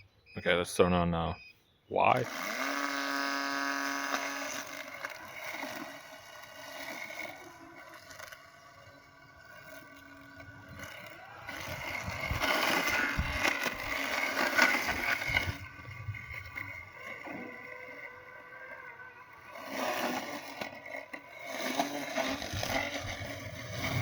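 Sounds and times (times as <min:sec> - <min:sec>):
robotic lawn mower motor whine: 0:02.0 - 0:24.0
rough mechanical noise: 0:02.0 - 0:24.0.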